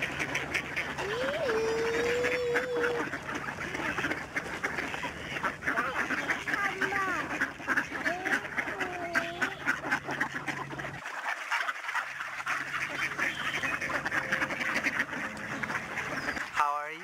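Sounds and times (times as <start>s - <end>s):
flock of ducks quacking: 0.0s - 17.0s.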